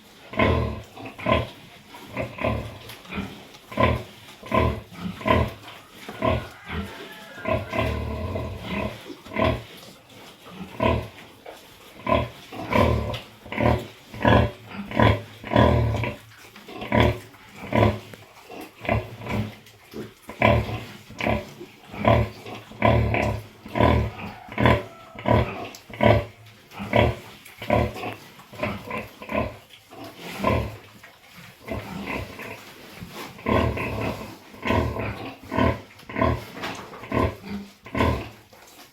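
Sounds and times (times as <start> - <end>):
pig grunting: 0.3 - 9.8, 10.4 - 11.2, 11.9 - 30.9, 31.6 - 38.5.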